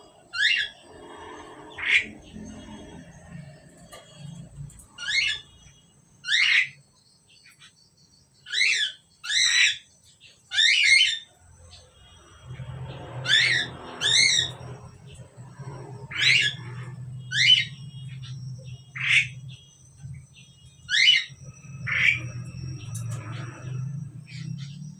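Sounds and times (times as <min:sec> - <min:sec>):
starling harsh calls: 0:00.0 - 0:06.8, 0:08.4 - 0:24.9.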